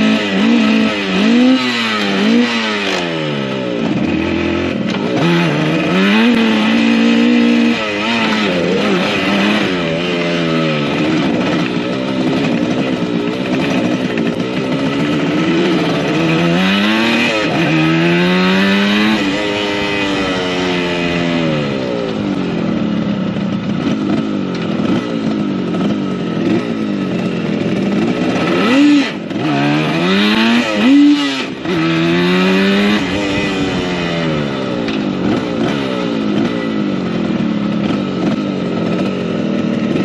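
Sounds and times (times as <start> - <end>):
two-stroke motorcycle engine revving: 0.0 - 40.0.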